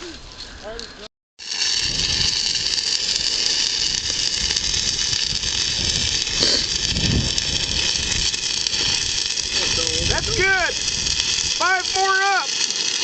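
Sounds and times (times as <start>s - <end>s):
electric arc crackling hiss: 1.4s - 13.0s.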